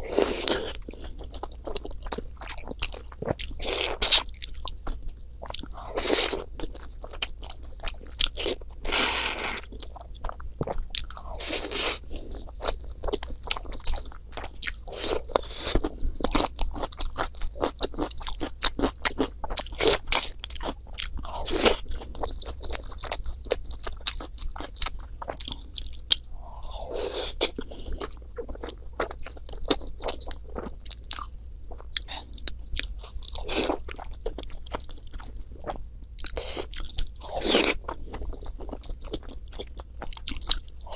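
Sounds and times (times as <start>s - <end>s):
person chewing and crunching food: 0.0s - 40.9s.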